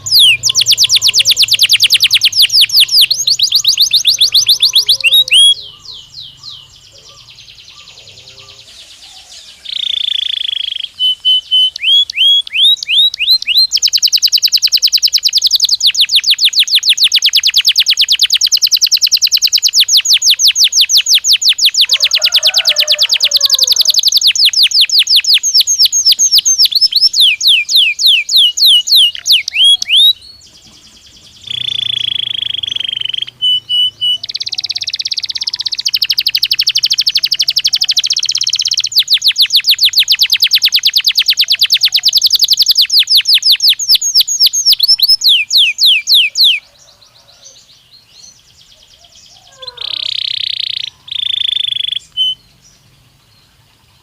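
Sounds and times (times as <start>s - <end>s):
canary singing: 0.0s - 53.8s.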